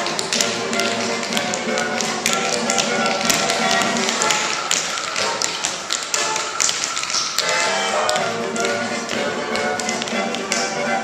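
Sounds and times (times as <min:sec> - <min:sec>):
recorded music: 0:00.0 - 0:11.0
tap shoes clicking on wooden floor: 0:00.0 - 0:11.0.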